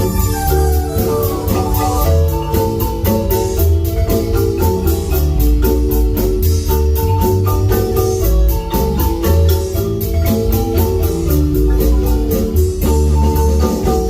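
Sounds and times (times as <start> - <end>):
deep bass line: 0.0 - 14.0
high percussion ticks: 0.0 - 14.0
marimba notes: 0.0 - 14.0.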